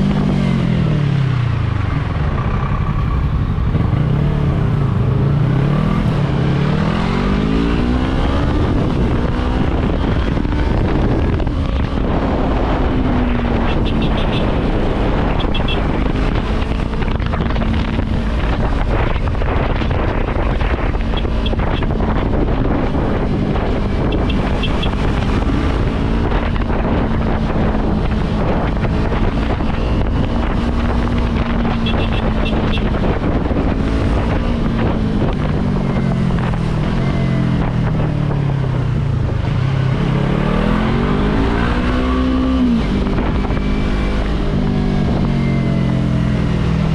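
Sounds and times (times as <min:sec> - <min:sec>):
motorcycle engine revving: 0:00.0 - 0:46.9
wind rushing over microphone: 0:00.0 - 0:46.9.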